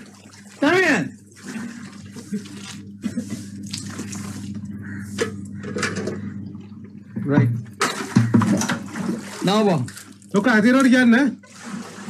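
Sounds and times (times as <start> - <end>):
low steady hum: 0.0 - 11.9
water sloshing and dripping: 0.0 - 12.0.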